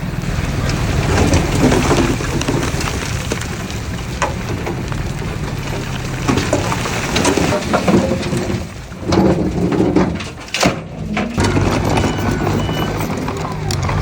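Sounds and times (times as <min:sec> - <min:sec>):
diesel engine drone: 0:00.0 - 0:14.0
machinery rumbling and scraping: 0:00.0 - 0:14.0.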